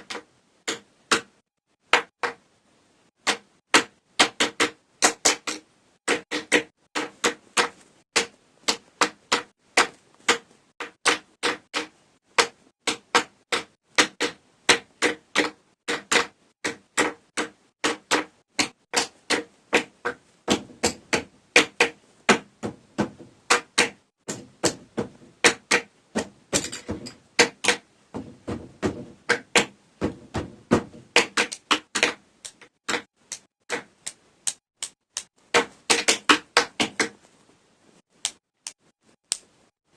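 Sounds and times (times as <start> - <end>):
pencils knocking rhythmically: 0.0 - 2.5, 3.2 - 37.2.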